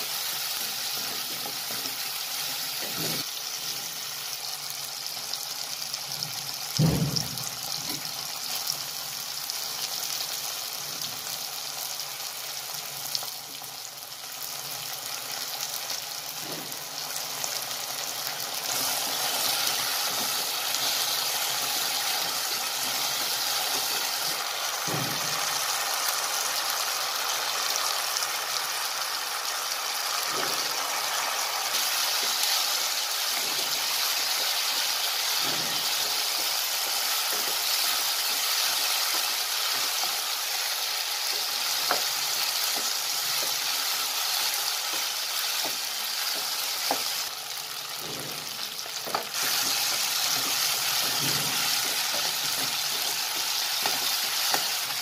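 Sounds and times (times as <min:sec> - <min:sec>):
vegetables sizzling in a frying pan: 0:00.0 - 0:55.0.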